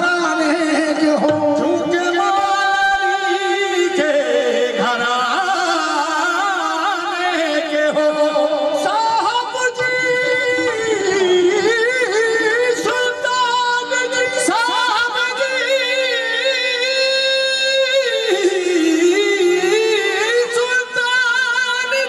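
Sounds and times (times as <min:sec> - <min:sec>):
devotional singing with instruments: 0:00.0 - 0:22.0.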